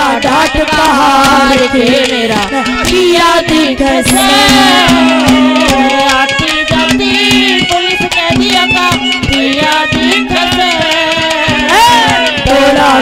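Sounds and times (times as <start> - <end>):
fast hand drum strokes: 0.0 - 13.0
held melody: 0.0 - 13.0
person singing: 0.0 - 13.0.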